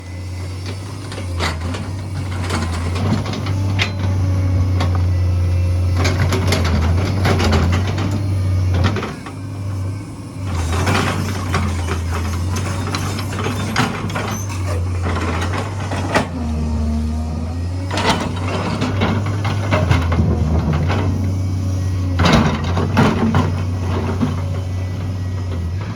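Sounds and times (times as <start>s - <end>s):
diesel engine droning: 0.0s - 25.9s.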